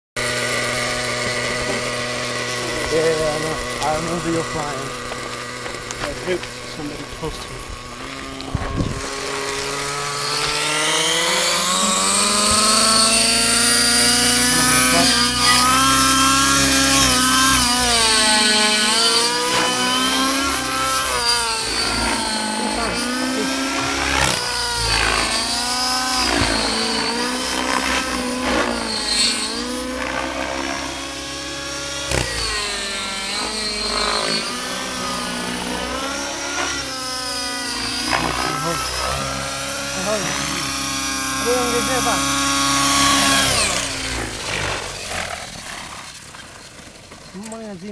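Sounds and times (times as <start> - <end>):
model helicopter rotor whine: 0.2 - 47.9.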